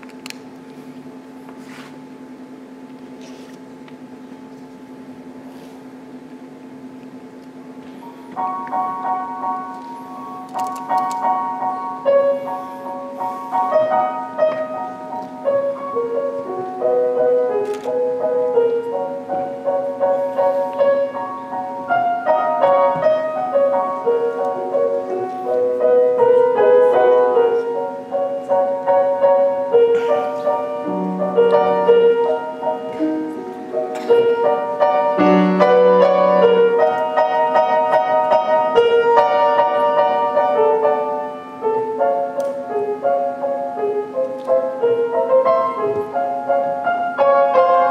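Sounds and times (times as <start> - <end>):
faint steady hum: 0.0 - 47.9
grand piano classical piece: 0.0 - 47.9.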